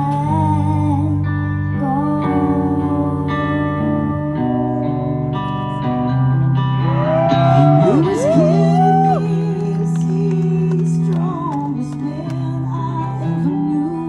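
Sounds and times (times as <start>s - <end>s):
electric guitar chords: 0.0s - 14.0s.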